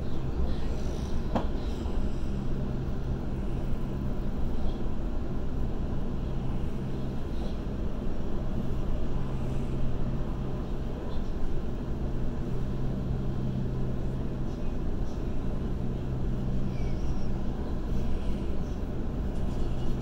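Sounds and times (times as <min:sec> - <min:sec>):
electric train hum: 0:00.0 - 0:20.0
wheels rumbling on track: 0:00.0 - 0:20.0.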